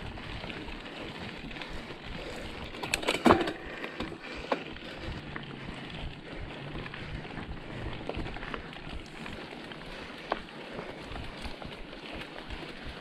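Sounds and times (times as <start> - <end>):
bike rattling over bumps: 0.0 - 13.0
bike tyres on loose stones: 0.0 - 13.0.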